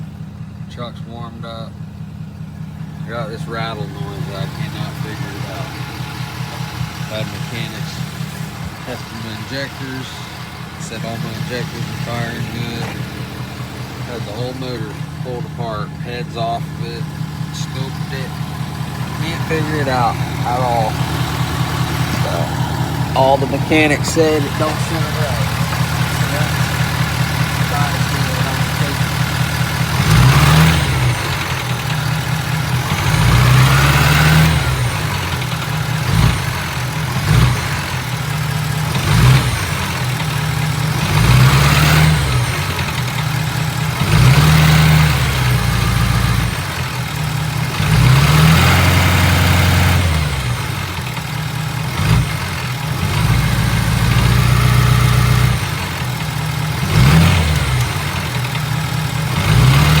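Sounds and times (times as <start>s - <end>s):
diesel engine idling and revving: 0.0s - 60.0s
engine rattle: 0.0s - 60.0s.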